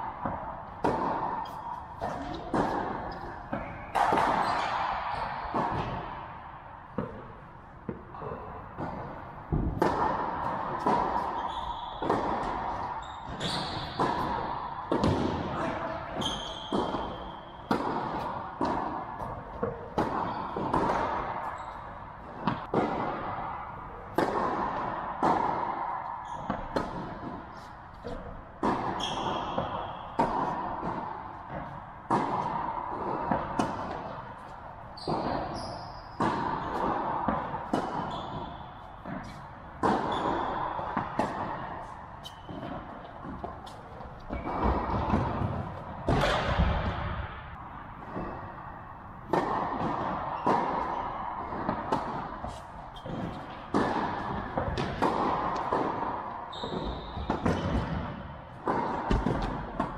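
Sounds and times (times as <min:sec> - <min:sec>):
tennis ball bouncing on court: 0:00.1 - 0:06.2, 0:06.8 - 0:59.9
tennis ball hit by rackets: 0:00.2 - 0:06.2, 0:06.8 - 0:59.9.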